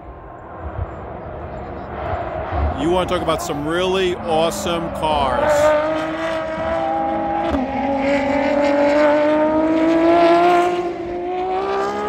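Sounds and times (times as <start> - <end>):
race car engine accelerating: 1.1 - 12.0.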